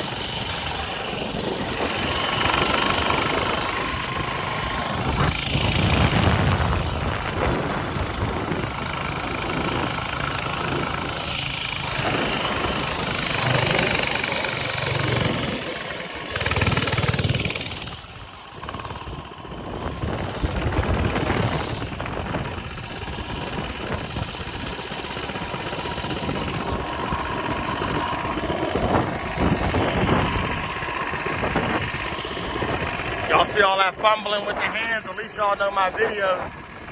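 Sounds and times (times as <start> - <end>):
mini bike engine running: 0.0 - 36.9.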